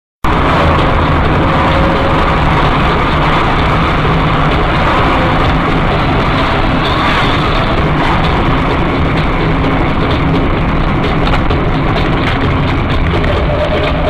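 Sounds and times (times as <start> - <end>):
car road and engine noise: 0.2 - 14.0.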